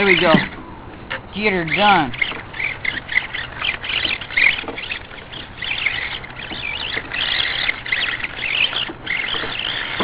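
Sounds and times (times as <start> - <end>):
toy truck electric motor whining: 1.8 - 10.0.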